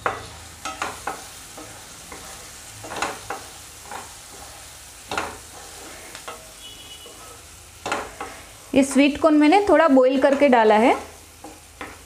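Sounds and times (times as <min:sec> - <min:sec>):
spatula scraping a pan: 0:00.0 - 0:12.0
vegetables sizzling in oil: 0:00.0 - 0:12.0.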